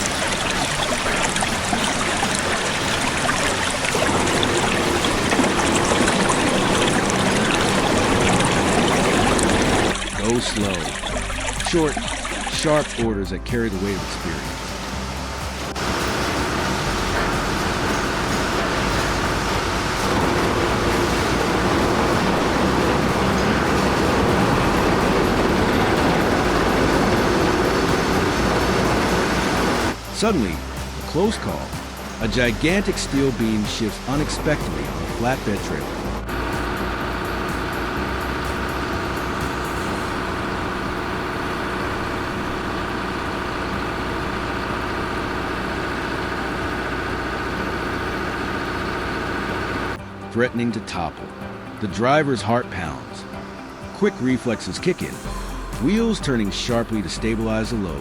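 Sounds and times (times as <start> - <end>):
heavy vehicle engine running: 0.0 - 50.4, 52.8 - 58.0
heavy machinery rumbling: 0.0 - 51.9.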